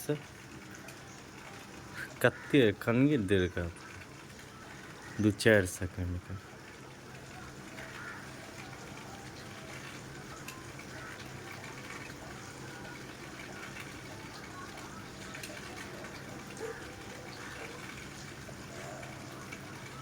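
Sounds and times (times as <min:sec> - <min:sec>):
steady heavy rain: 0:00.0 - 0:20.0
water running and pouring: 0:00.0 - 0:20.0.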